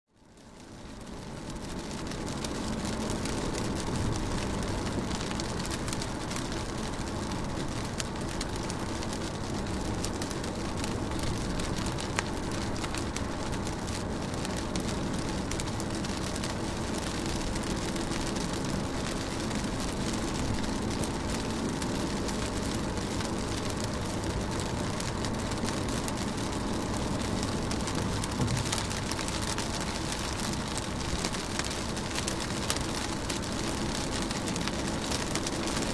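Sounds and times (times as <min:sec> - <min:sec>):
low steady rumble: 0:00.2 - 0:35.9
rain on a car window: 0:00.2 - 0:35.9.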